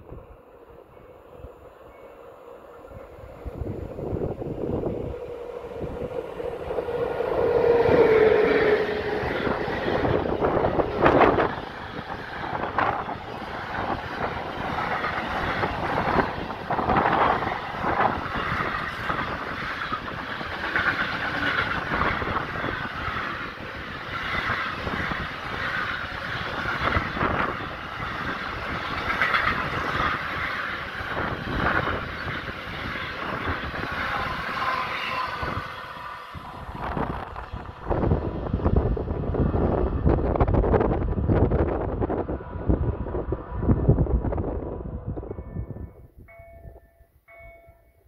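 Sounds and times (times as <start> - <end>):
train wheels rumbling on rail: 0.0 - 47.6.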